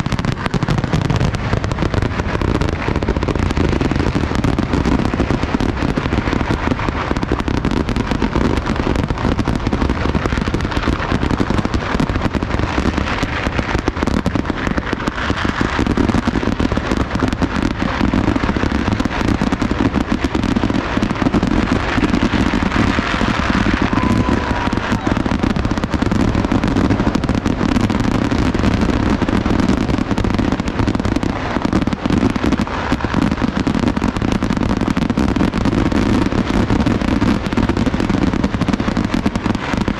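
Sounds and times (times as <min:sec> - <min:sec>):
fireworks banging and crackling: 0:00.0 - 0:39.9.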